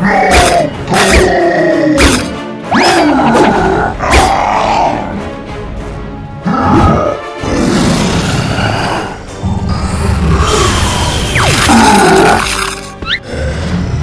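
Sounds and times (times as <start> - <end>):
cartoon monster roars and growls: 0.0 - 5.2, 6.4 - 14.0
background music: 0.0 - 14.0.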